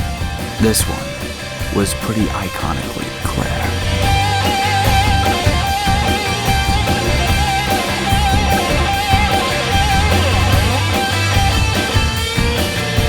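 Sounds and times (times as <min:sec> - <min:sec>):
rock music with electric guitar: 0:00.0 - 0:13.0.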